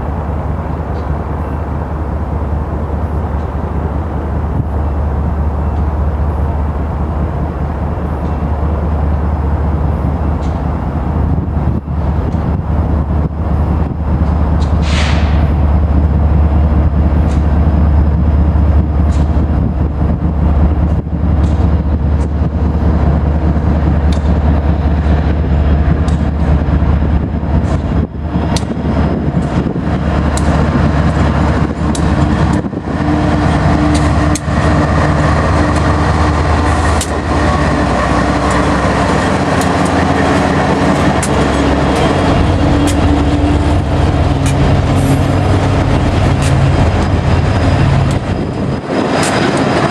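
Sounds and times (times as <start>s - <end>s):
freight train rumbling by: 0.0s - 49.9s
train wheels clicking on rails: 0.0s - 49.9s.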